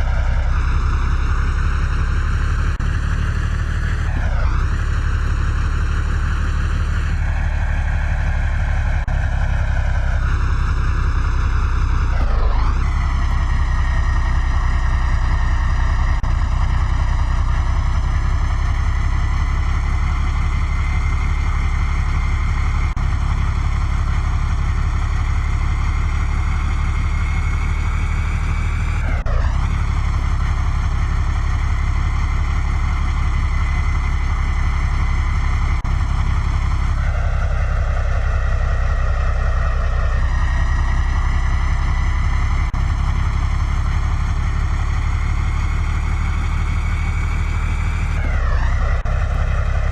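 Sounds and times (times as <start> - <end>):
truck engine low drone: 0.0 - 49.9.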